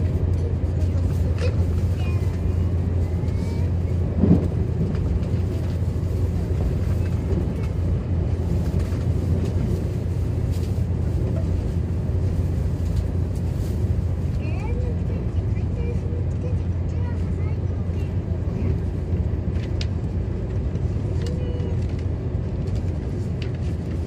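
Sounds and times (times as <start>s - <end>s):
electric train rumble: 0.0s - 24.0s.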